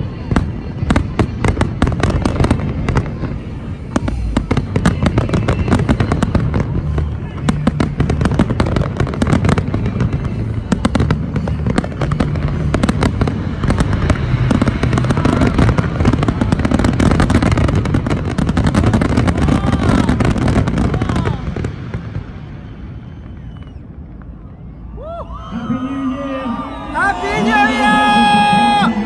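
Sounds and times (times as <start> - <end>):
fireworks crackling and banging: 0.0 - 25.8
continuous low rumble: 0.0 - 29.0.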